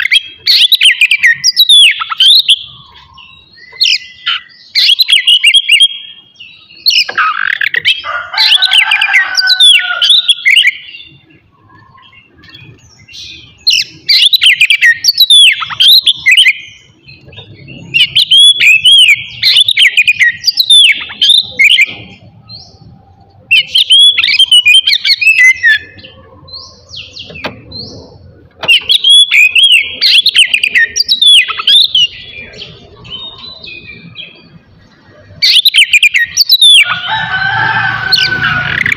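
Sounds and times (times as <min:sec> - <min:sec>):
bird singing whistles and trills: 0:00.0 - 0:08.0, 0:09.4 - 0:22.8, 0:23.5 - 0:34.6, 0:35.4 - 0:37.0.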